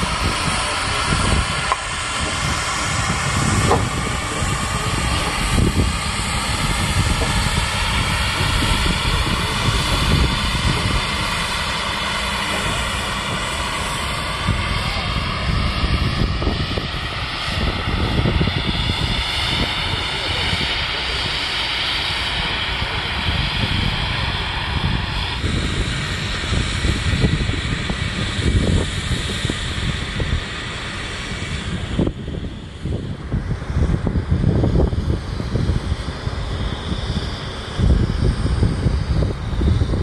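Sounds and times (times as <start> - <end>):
steam train rolling rumble: 0.0 - 40.0.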